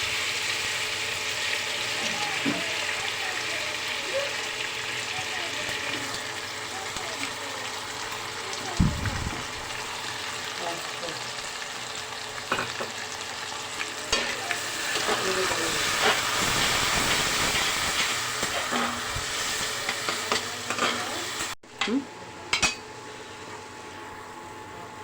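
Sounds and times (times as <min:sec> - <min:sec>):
masala sizzling in oil: 0:00.0 - 0:21.6.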